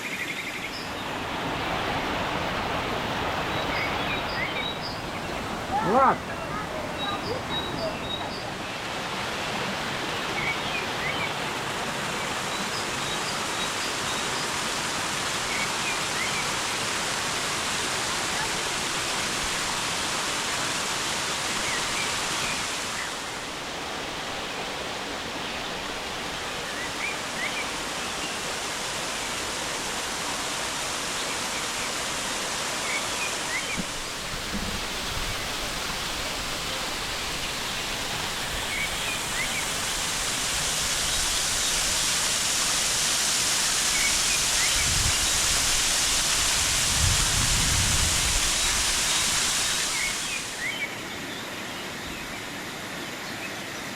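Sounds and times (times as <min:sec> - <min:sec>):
waterfall rushing: 0:00.0 - 0:51.2.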